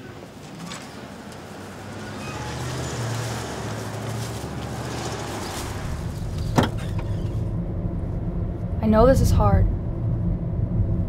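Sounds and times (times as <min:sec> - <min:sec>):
low vehicle rumble: 0:00.1 - 0:11.0.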